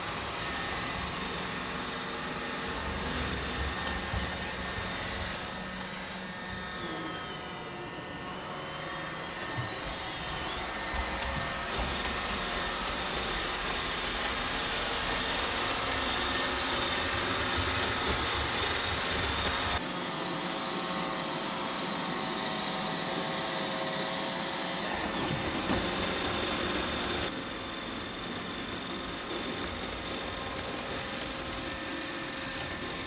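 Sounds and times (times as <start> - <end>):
robot vacuum running: 0.0 - 33.0.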